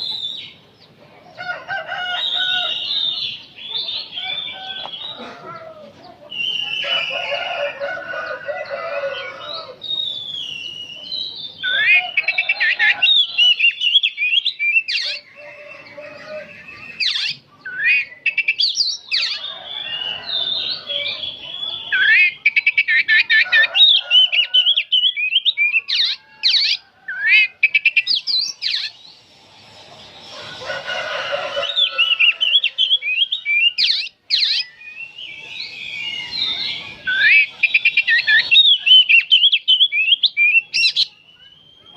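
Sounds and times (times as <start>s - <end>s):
bird singing varied phrases: 0.0s - 1.0s, 2.1s - 5.2s, 6.0s - 7.7s, 8.3s - 30.6s, 31.5s - 41.9s.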